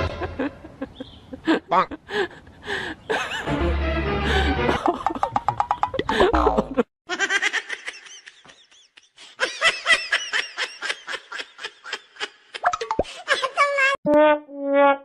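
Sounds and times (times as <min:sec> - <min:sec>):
person laughing: 0:00.0 - 0:13.8.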